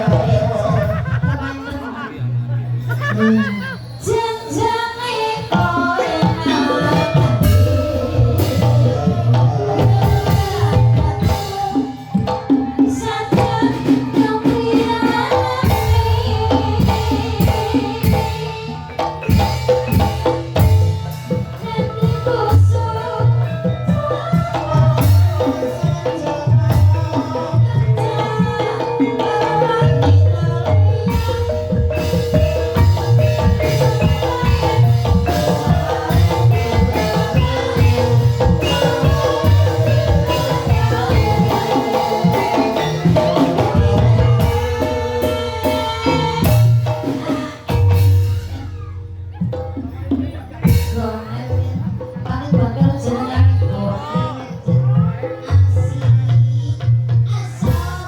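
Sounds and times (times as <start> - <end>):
ringing metallophone notes: 2.8 - 56.6
hand drum beat: 5.5 - 58.0.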